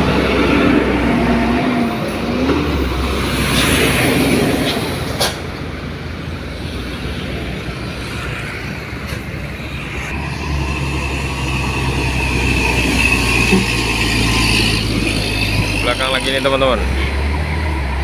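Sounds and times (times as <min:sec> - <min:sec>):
truck diesel engine pulling uphill: 0:00.0 - 0:08.0, 0:08.6 - 0:18.0.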